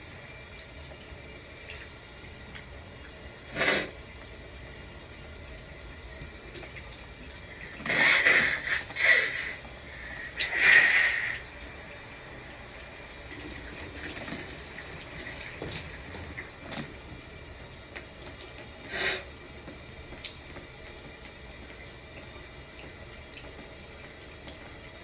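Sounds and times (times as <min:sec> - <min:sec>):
shower running: 0:00.0 - 0:25.0.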